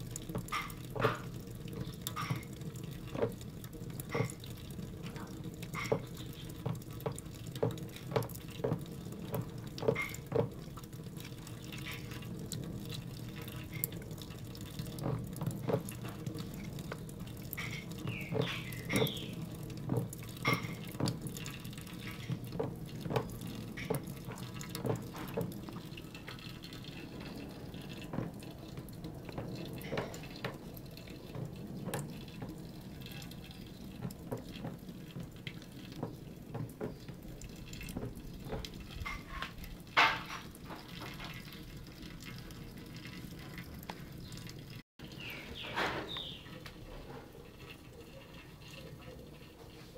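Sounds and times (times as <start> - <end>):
kitten lapping water: 0.0 - 45.2.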